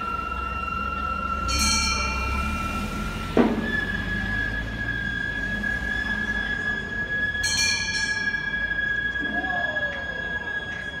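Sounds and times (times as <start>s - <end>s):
bamboo flute long notes: 0.0s - 11.0s.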